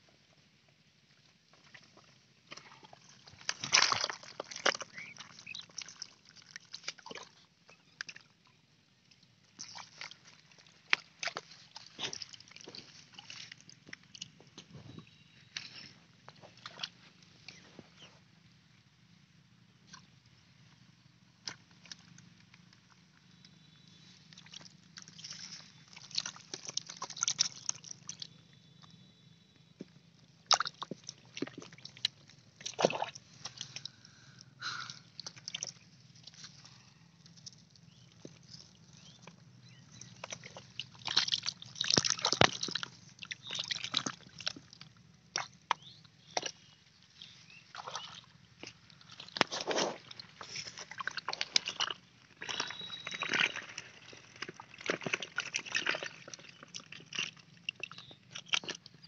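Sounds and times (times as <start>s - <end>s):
muddy water splashing: 1.6s - 8.5s, 9.2s - 18.1s, 21.4s - 28.5s, 30.2s - 59.0s.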